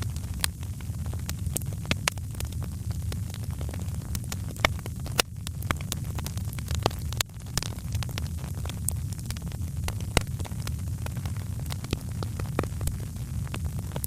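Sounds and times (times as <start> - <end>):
low rumble of flames: 0.0 - 14.0
pops and snaps of burning wood: 0.0 - 14.0
wood fire crackling: 0.0 - 14.0.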